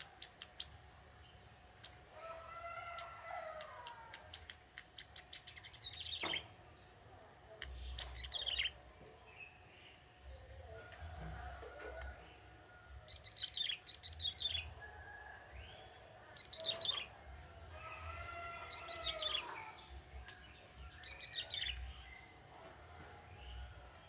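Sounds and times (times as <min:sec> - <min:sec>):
bird chirping song: 0:00.0 - 0:02.1, 0:03.8 - 0:11.0, 0:12.2 - 0:22.5.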